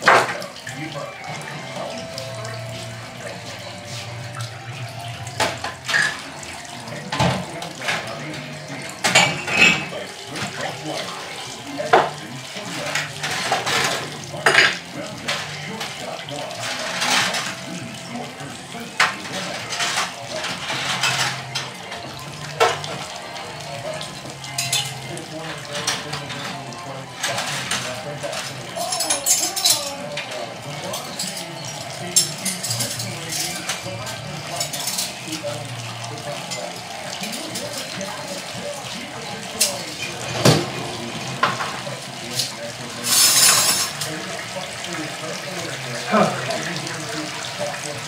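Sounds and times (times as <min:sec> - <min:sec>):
dishes and utensils clattering: 0:00.0 - 0:48.0
tap running into sink: 0:00.0 - 0:48.0.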